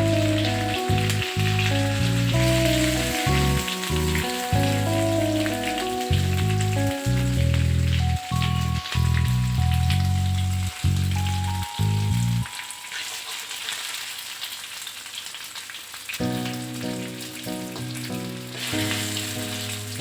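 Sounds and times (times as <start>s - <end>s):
background music: 0.0s - 13.3s, 16.2s - 20.0s
chicken sizzling in hot oil: 0.0s - 20.0s.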